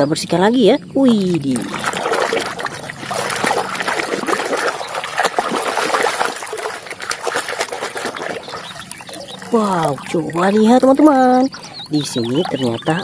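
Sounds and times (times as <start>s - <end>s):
water splashing and trickling: 0.7s - 13.0s.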